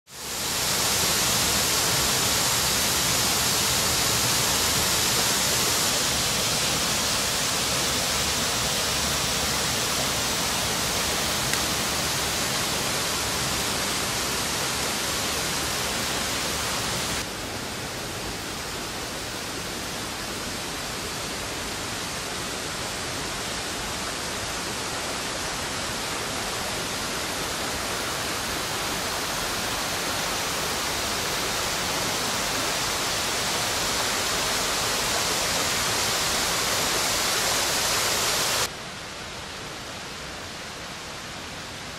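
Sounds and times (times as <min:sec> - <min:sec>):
rushing mountain torrent: 0:00.1 - 0:41.9.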